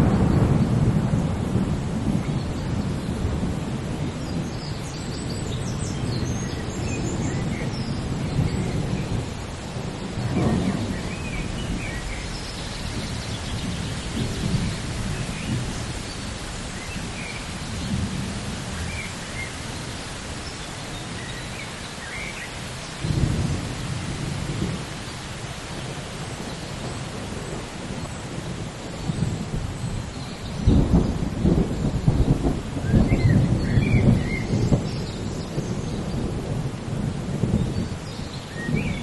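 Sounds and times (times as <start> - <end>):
thunder rumbling: 0.0 - 20.4, 22.6 - 39.0
steady rain: 0.0 - 39.0.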